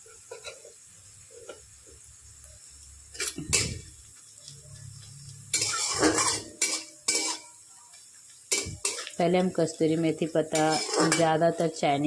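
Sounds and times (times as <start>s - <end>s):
spatula stirring frying onions: 0.0s - 12.0s.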